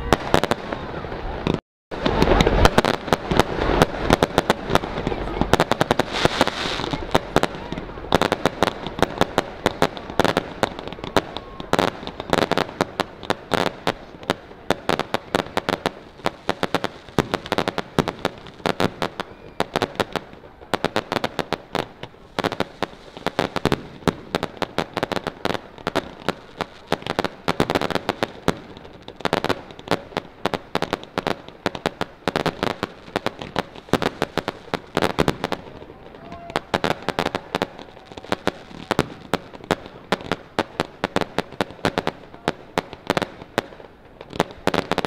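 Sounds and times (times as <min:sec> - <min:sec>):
fireworks bangs and pops: 0:00.0 - 0:45.0.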